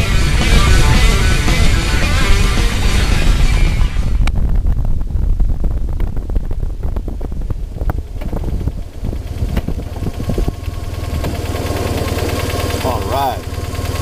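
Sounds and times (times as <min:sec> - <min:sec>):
wind rumble on microphone: 0:00.0 - 0:12.5
motorcycle engine running: 0:00.0 - 0:14.0.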